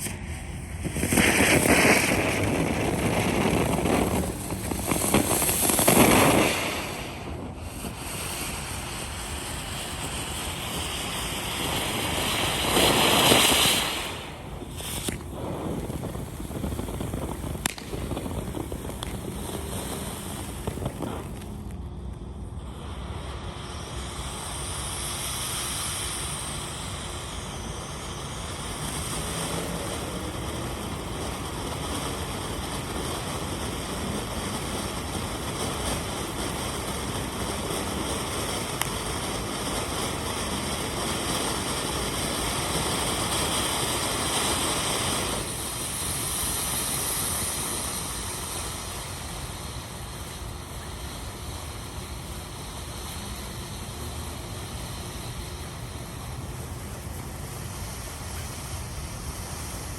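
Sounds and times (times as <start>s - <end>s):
firework fountain hissing: 0.0s - 59.9s.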